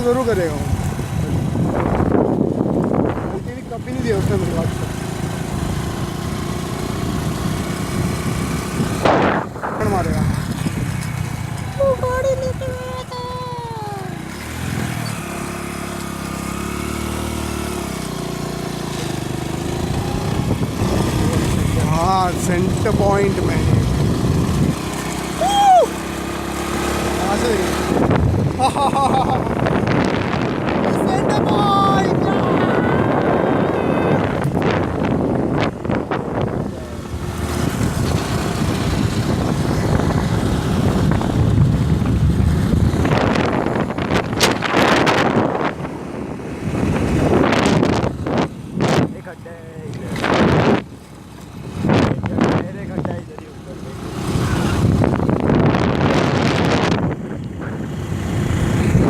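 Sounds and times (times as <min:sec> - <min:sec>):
motorcycle engine running: 0:00.0 - 0:59.0
wind and road rush: 0:00.0 - 0:59.0.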